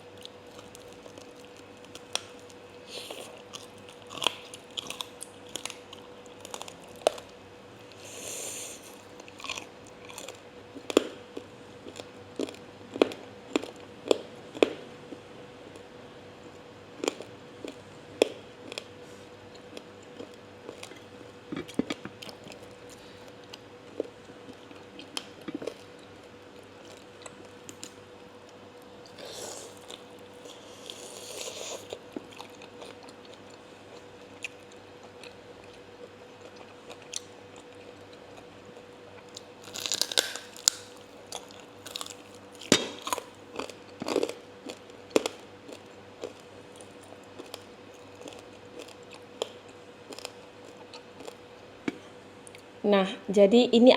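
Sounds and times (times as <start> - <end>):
crunching and chewing crispy food: 0.0 - 52.7.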